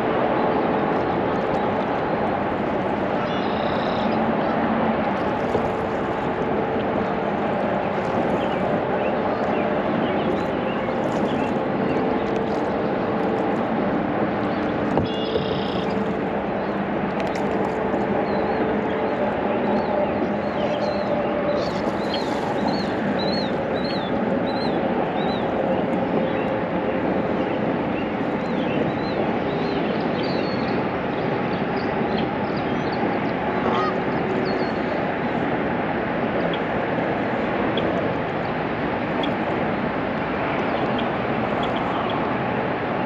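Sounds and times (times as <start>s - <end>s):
rushing river water: 0.0s - 43.0s
wind: 0.0s - 43.0s.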